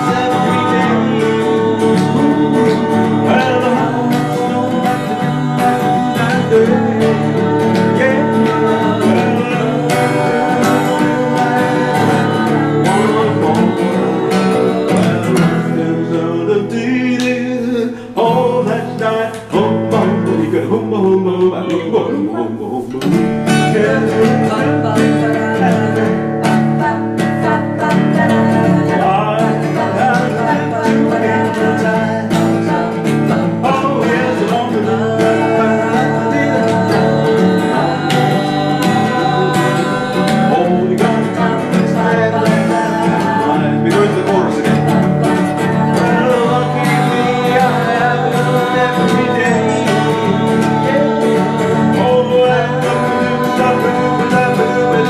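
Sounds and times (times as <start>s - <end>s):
acoustic guitar strumming: 0.0s - 55.0s
people singing together: 0.0s - 55.0s.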